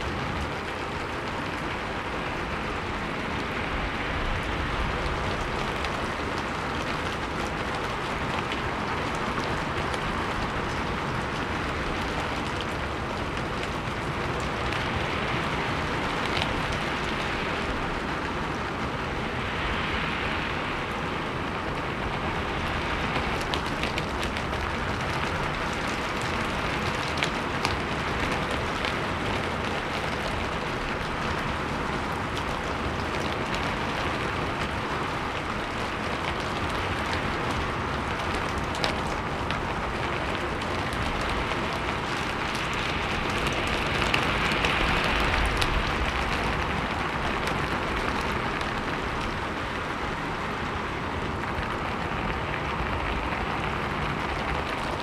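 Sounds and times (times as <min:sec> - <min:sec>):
rain pattering on a roof: 0:00.0 - 0:55.0
wind rumble: 0:00.0 - 0:55.0.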